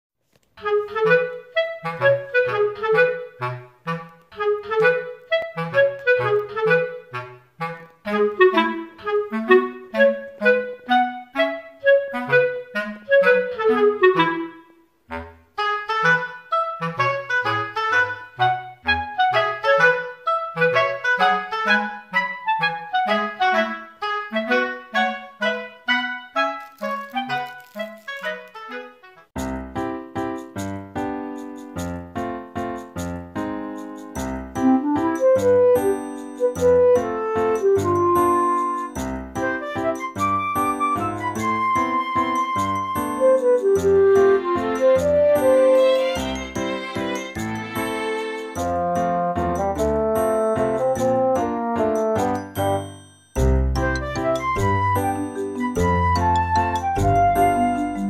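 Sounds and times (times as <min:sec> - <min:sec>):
clarinet music over bass line: 0:00.6 - 0:30.0, 0:34.2 - 0:58.0.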